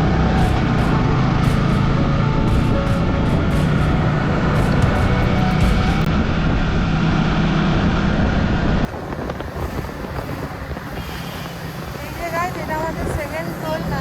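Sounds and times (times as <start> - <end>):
motorcycle engine at speed: 0.0 - 14.0
wind rushing over microphone: 0.0 - 14.0.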